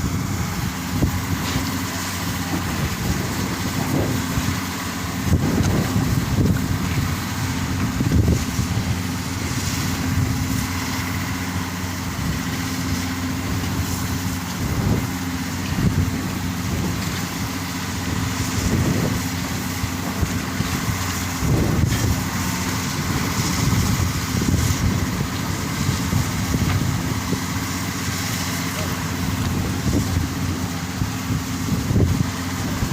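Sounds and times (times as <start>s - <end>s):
wind buffeting microphone: 0.0s - 11.4s, 12.0s - 27.7s, 29.1s - 32.9s
ferry engine running: 0.0s - 32.9s.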